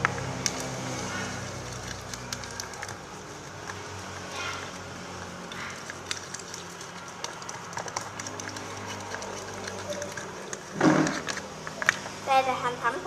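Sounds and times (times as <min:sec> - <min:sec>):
sticky clicks and squelches of slime: 0:00.0 - 0:12.5.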